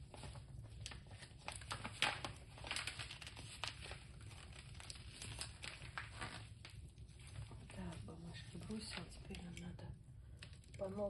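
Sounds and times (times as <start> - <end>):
paper crumpling and crackling: 0.0 - 9.6.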